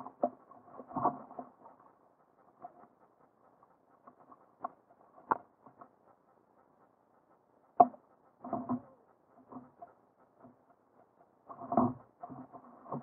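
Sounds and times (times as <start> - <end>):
faint crackle: 0.0 - 13.0.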